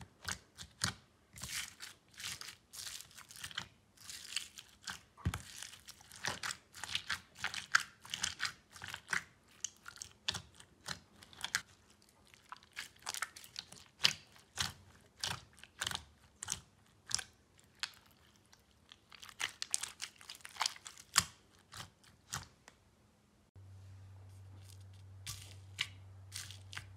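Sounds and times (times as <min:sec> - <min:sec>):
slime beads crunching: 0:01.4 - 0:22.4, 0:24.6 - 0:26.9.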